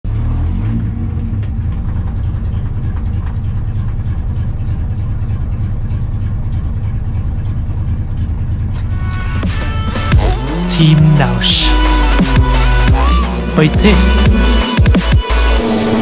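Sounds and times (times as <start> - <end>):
car engine idling: 0.1 - 16.0.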